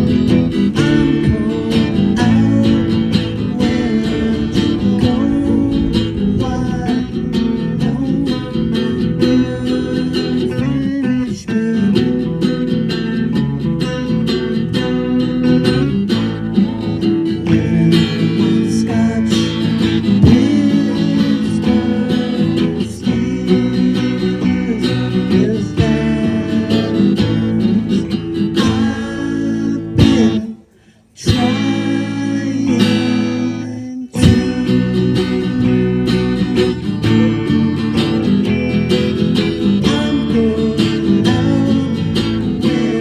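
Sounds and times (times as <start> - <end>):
strummed acoustic guitar: 0.0 - 43.0.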